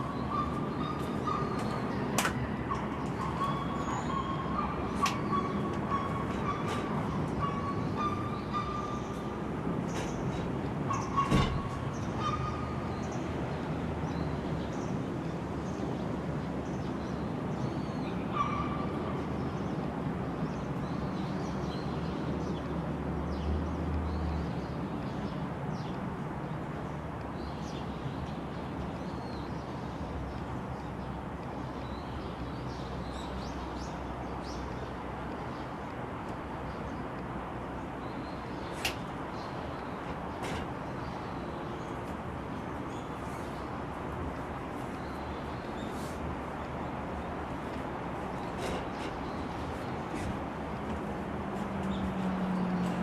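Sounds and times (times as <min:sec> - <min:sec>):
birds chirping: 0:00.0 - 0:15.0, 0:23.4 - 0:52.9.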